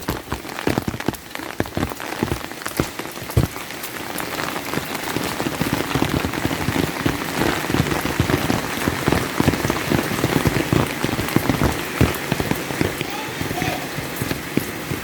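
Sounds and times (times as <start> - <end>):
rain pattering on an umbrella: 0.0 - 15.0.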